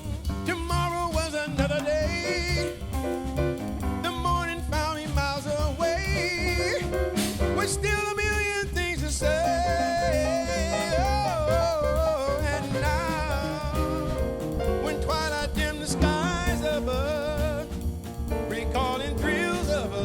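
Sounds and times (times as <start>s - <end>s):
jazz band playing: 0.0s - 20.0s.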